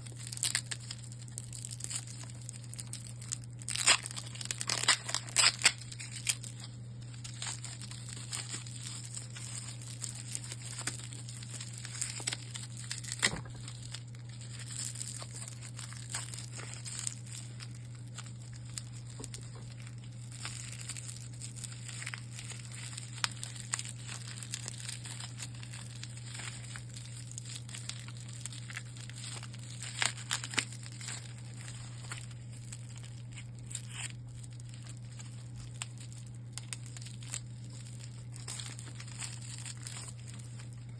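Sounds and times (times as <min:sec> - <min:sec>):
plastic packaging crinkling: 0:00.0 - 0:40.9
steady low hum: 0:00.0 - 0:40.9.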